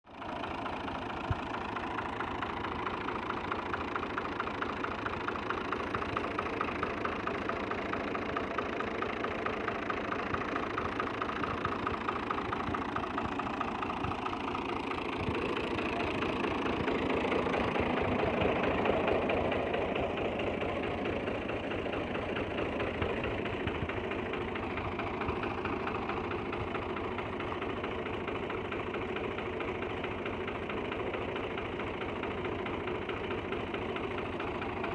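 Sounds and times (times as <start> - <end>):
tractor diesel engine chugging: 0.0 - 34.9.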